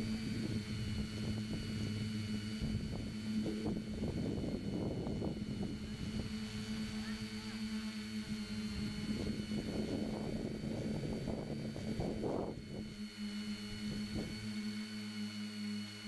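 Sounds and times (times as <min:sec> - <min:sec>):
wind rushing over microphone: 0:00.0 - 0:07.4, 0:08.1 - 0:14.5
drone motors humming: 0:00.0 - 0:16.0.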